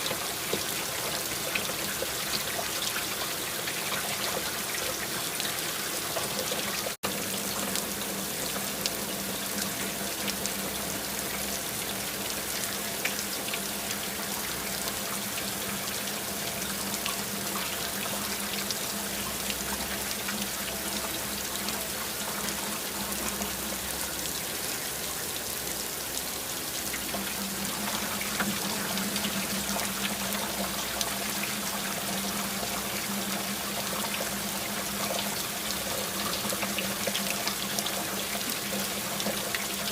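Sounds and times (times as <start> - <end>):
steady rain falling: 0.0 - 39.9
water trickling: 0.0 - 39.9.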